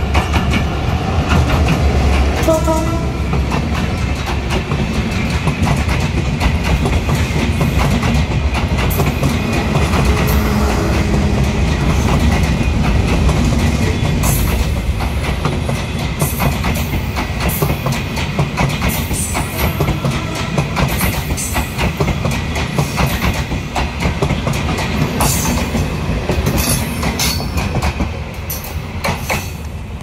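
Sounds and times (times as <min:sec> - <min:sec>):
clickety-clack of rail joints: 0:00.0 - 0:30.0
train wheels rumbling on rails: 0:00.0 - 0:30.0.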